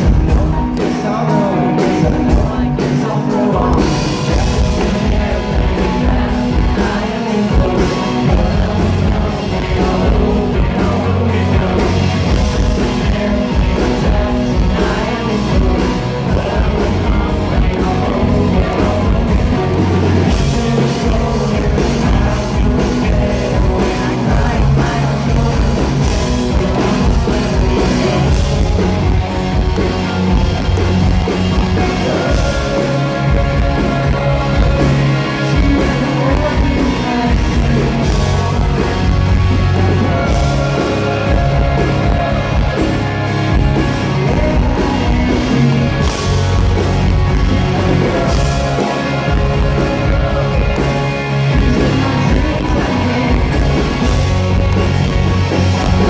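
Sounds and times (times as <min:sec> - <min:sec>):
electric guitars: 0:00.0 - 0:56.0
lead singer singing: 0:00.0 - 0:56.0
steady drum beat: 0:00.0 - 0:56.0.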